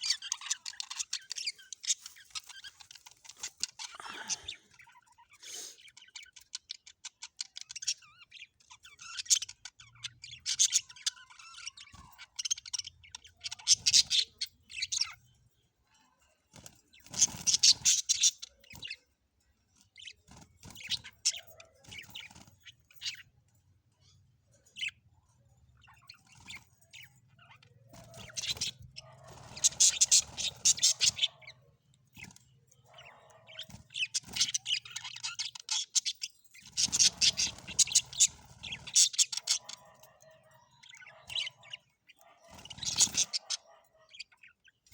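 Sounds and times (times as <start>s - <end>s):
budgerigars chattering: 0.0s - 15.2s, 17.0s - 19.0s, 25.8s - 44.9s.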